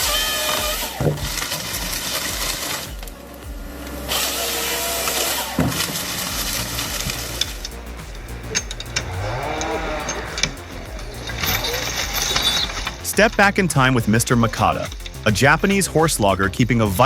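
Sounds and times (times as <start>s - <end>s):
timber harvester sawing: 0.0s - 17.0s.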